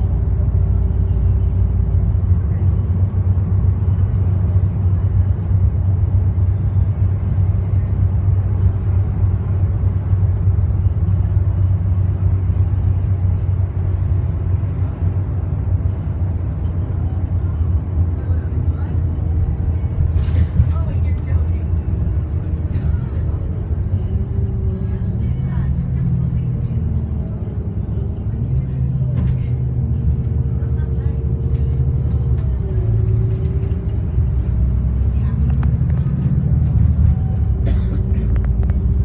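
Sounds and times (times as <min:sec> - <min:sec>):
bus engine droning: 0:00.0 - 0:39.0
road rumble: 0:00.0 - 0:39.0.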